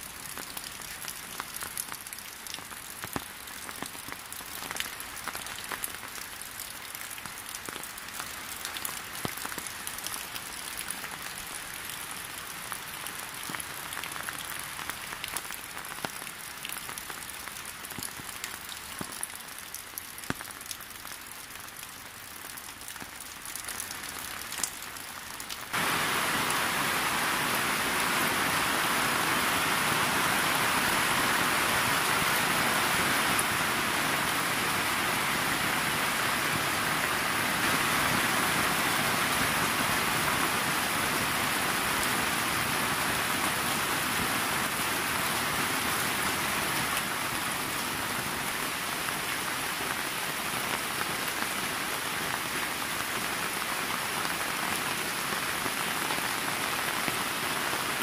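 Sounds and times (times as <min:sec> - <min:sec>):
heavy rain on leaves and water: 0:00.0 - 0:58.0.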